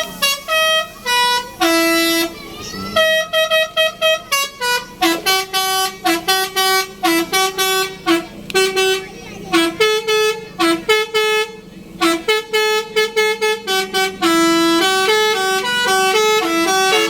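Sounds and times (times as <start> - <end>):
bus musical horn playing tune: 0.0 - 17.0.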